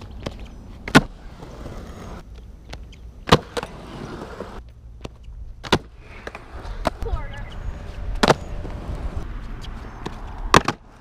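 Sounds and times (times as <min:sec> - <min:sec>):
skateboard wheels rolling on concrete: 0:00.0 - 0:11.0.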